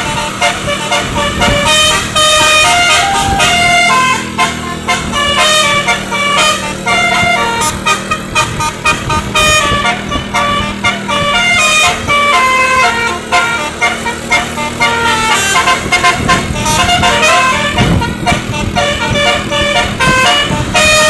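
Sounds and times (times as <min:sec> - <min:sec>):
bus horn playing a melody: 0:00.0 - 0:21.0
steady low hum: 0:00.0 - 0:21.0.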